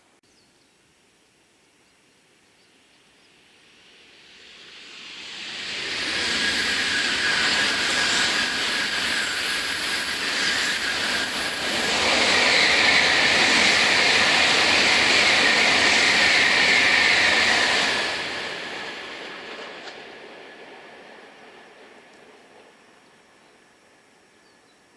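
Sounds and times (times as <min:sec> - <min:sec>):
high-speed train passing: 0:03.5 - 0:24.4.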